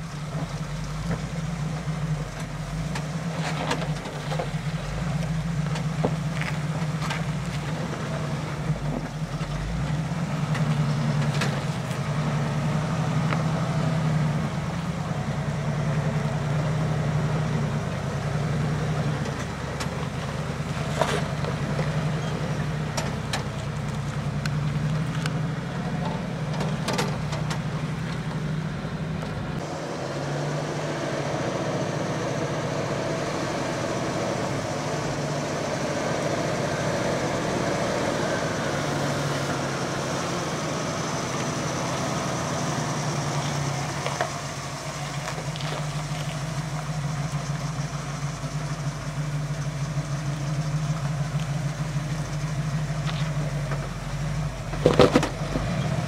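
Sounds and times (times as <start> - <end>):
engine droning at low revs: 0.0 - 56.0.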